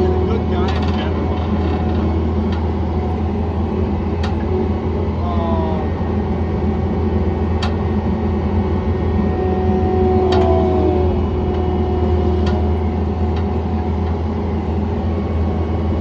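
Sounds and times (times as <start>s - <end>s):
loader engine droning: 0.0s - 16.0s
short falling whine: 2.9s - 16.0s.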